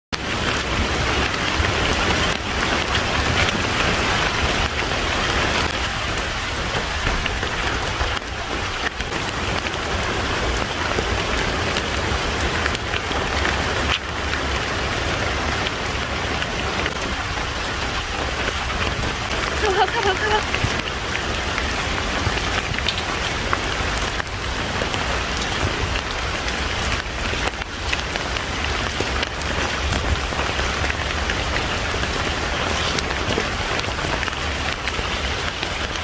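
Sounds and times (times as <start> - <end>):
rain pattering on hard surfaces: 0.2 - 36.0.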